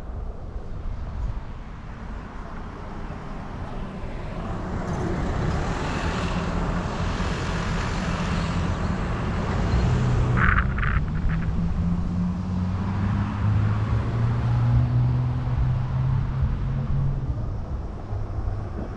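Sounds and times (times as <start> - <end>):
road traffic rumble: 0.0 - 18.9.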